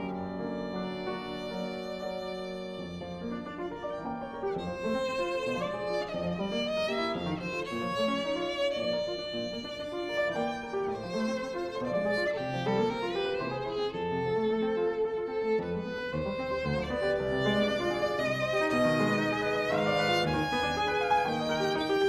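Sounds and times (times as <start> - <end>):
wavering violin notes: 0.0 - 22.0.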